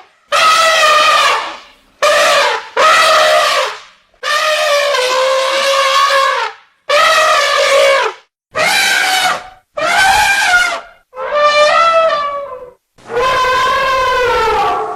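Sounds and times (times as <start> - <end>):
elephants trumpeting: 0.0 - 14.9.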